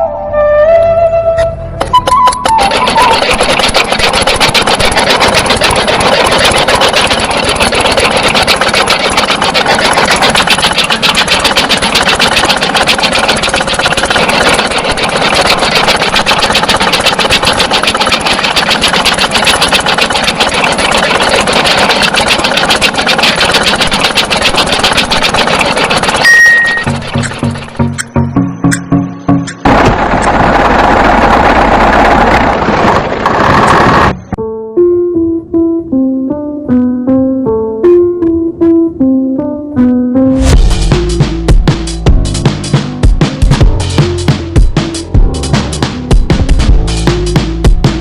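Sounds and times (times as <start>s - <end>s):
small engine running steadily: 1.8s - 28.4s, 29.5s - 34.4s, 40.4s - 48.0s.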